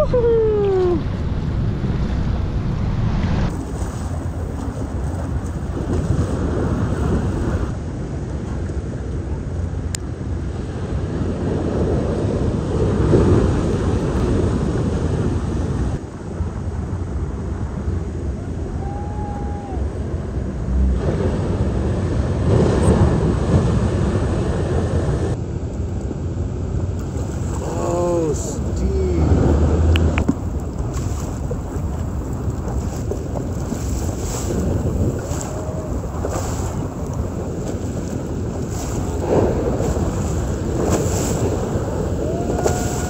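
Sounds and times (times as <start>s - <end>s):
ocean surf breaking: 0.0s - 8.2s, 10.3s - 25.4s, 27.0s - 43.0s
wind buffeting microphone: 0.0s - 25.4s, 26.0s - 43.0s.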